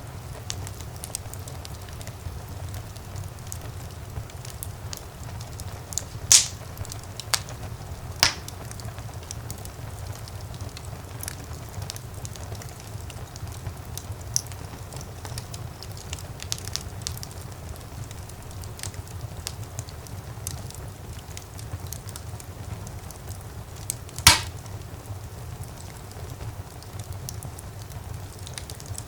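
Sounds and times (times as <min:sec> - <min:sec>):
wood fire burning: 0:00.0 - 0:29.0.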